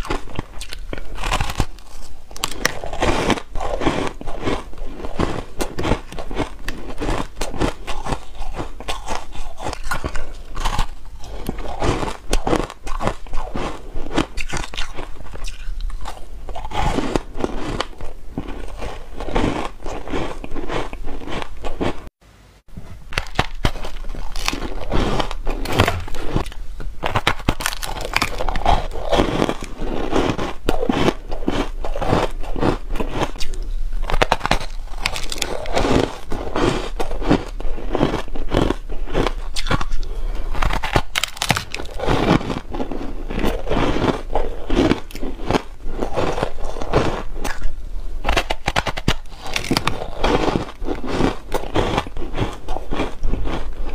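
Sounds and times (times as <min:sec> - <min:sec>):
chewing crunchy ice: 0:00.0 - 0:22.1, 0:23.1 - 0:53.9.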